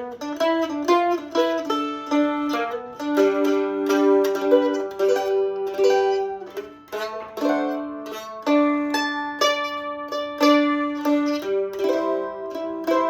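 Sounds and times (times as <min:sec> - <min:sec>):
mandolin playing blues: 0:00.0 - 0:13.0.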